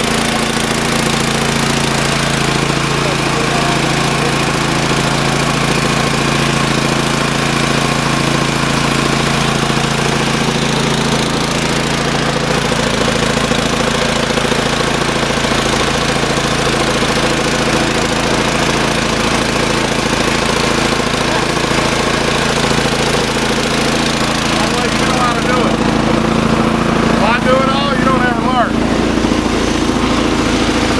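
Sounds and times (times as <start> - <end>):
air compressor engine running: 0.0 - 30.9.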